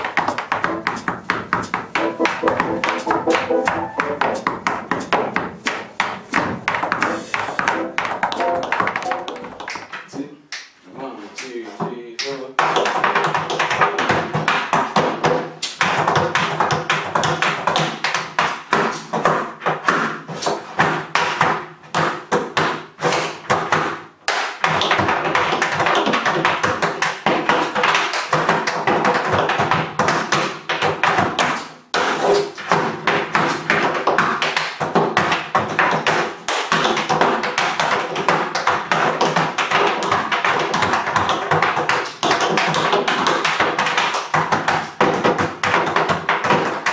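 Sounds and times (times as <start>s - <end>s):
tap shoes on wooden board: 0.0s - 10.2s, 11.4s - 46.9s.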